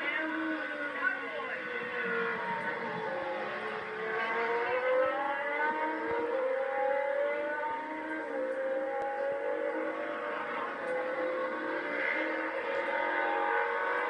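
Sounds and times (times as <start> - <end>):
racing motorcycles passing at high revs: 0.0 - 14.0.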